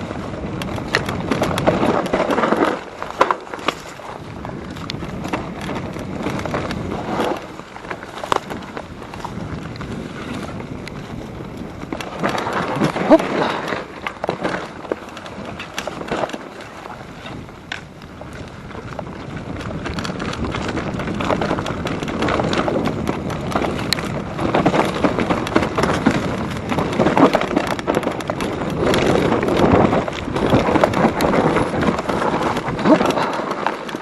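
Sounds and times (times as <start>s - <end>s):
mountain bike rattling: 0.0s - 34.0s
wind on microphone: 0.0s - 34.0s.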